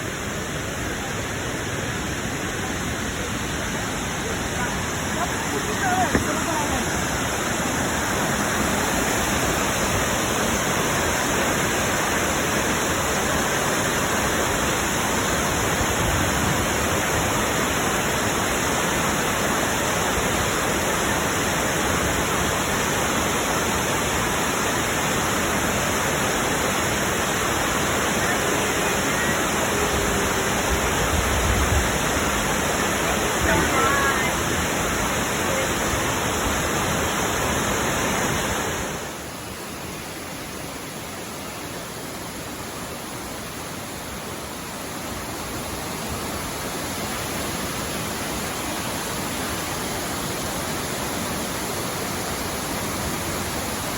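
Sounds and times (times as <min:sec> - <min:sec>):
waterfall crashing onto rocks: 0:00.0 - 0:53.9.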